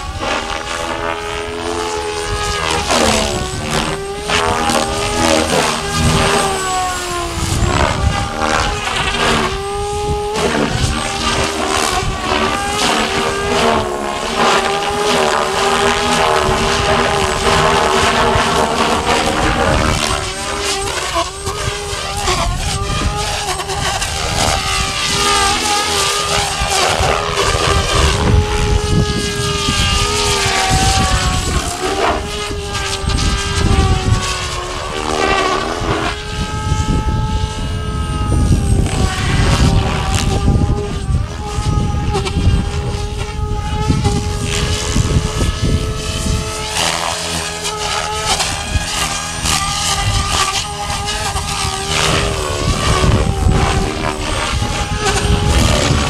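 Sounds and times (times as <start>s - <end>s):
model helicopter rotors whining: 0.0s - 56.0s.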